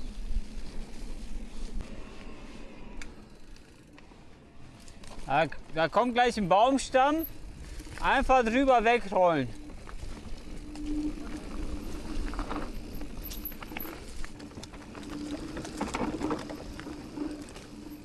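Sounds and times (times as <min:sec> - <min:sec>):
bike and tyres rattling: 0:03.1 - 0:18.0.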